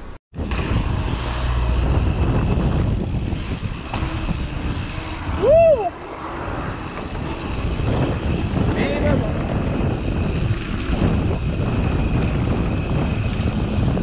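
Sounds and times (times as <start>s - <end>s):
wind on microphone: 0.0s - 14.0s
rising and falling tone: 0.4s - 13.8s
bike tyres rolling on paving: 0.4s - 14.0s.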